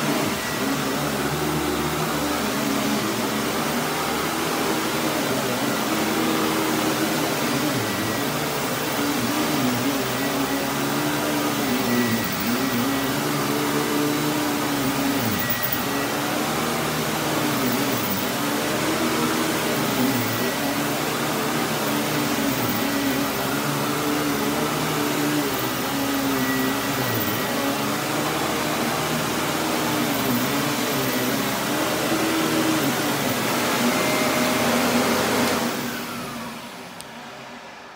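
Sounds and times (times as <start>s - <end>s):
vacuum cleaner on carpet: 0.0s - 37.9s.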